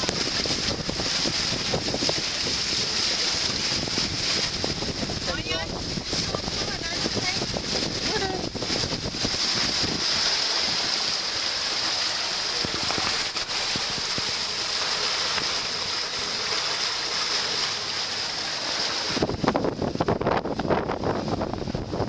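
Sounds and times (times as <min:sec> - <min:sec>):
wind buffeting microphone: 0:00.0 - 0:11.5, 0:12.4 - 0:16.5, 0:18.9 - 0:22.0
water rushing along a yacht: 0:00.0 - 0:22.0.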